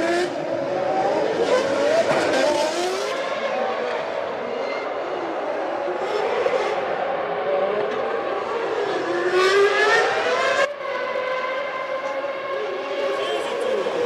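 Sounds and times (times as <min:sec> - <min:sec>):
race car engines at high revs: 0:00.0 - 0:14.0.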